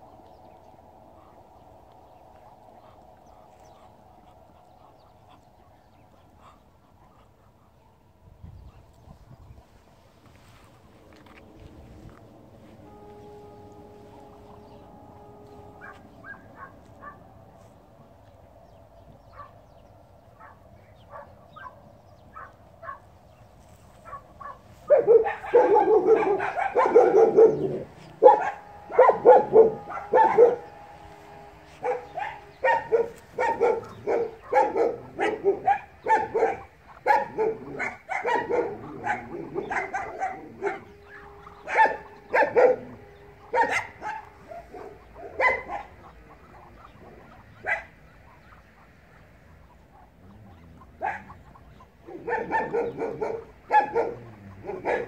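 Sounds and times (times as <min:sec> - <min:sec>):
ducks calling: 0:00.0 - 0:55.0.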